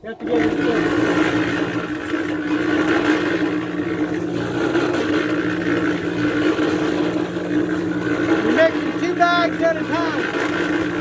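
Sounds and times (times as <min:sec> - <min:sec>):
electric cement mixer running: 0:00.0 - 0:11.0.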